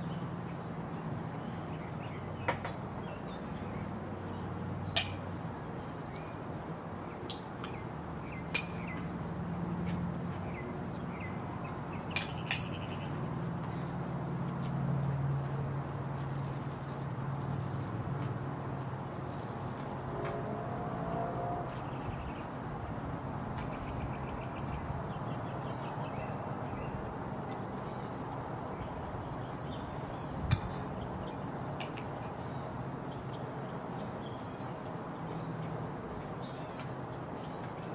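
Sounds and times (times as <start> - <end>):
small birds chirping: 0.0 - 15.1, 21.4 - 37.9.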